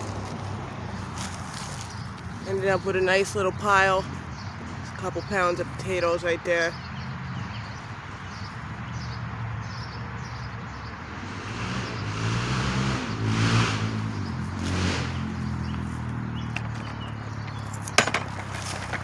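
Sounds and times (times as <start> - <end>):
tyre and road noise: 0.0 - 19.0
vehicle engine hum: 0.0 - 19.0.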